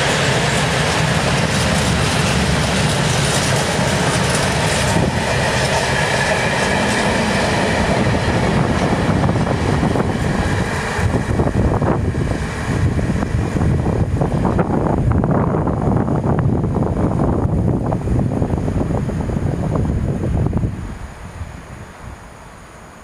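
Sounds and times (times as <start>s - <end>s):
freight train wheels rumbling: 0.0s - 22.4s.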